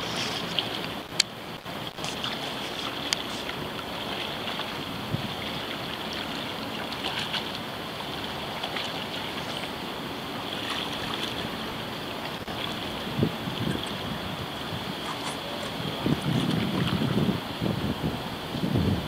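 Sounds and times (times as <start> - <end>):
small waves lapping: 0.0 - 18.7
wind on microphone: 0.0 - 19.0.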